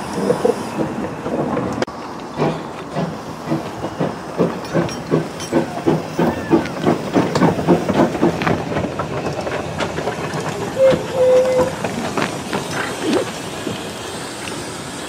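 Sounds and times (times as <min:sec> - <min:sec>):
steam hissing: 0:00.0 - 0:15.0
steam locomotive chuffing: 0:00.0 - 0:15.0.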